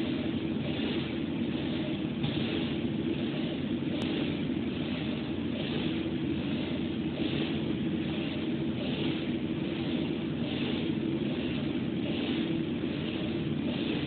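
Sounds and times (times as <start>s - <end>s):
print carriage hiss: 0.0s - 14.0s
printer machine hum: 0.0s - 14.0s.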